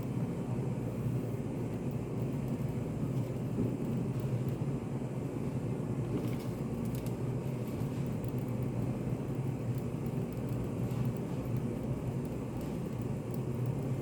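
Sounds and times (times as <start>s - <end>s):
low rumbling cafe hum: 0.0s - 14.0s.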